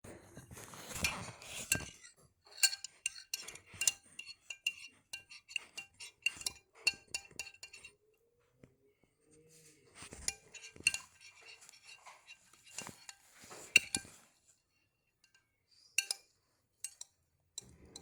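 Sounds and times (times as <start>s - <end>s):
spoon clinking against dish: 0.4s - 7.9s, 10.0s - 14.3s, 15.2s - 18.0s.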